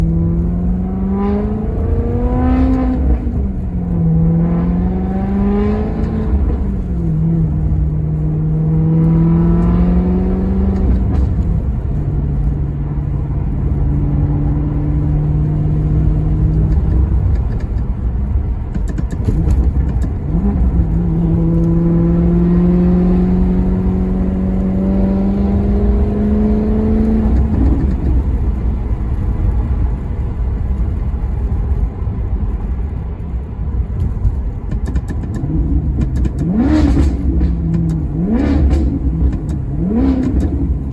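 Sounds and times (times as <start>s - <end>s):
car engine revving: 0.0s - 32.0s, 33.6s - 40.9s
low road rumble: 0.0s - 40.9s.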